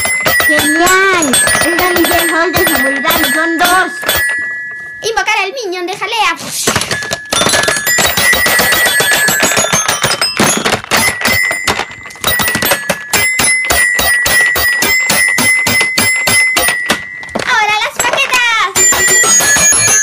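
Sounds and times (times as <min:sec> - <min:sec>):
toy xylophone strikes: 0:00.0 - 0:05.2, 0:06.8 - 0:20.0.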